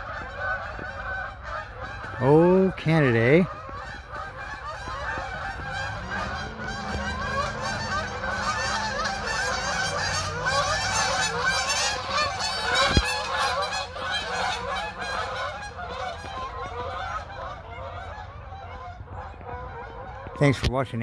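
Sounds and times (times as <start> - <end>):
geese honking: 0.0 - 20.7.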